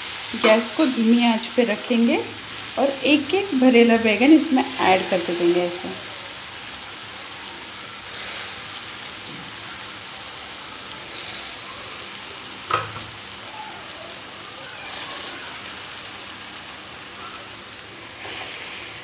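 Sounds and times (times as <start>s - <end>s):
masala sizzling in oil: 0.0s - 19.0s.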